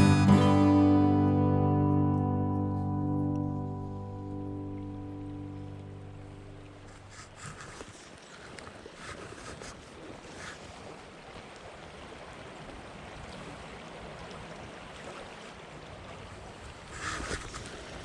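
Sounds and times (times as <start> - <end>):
creek water flowing: 2.2 - 18.0.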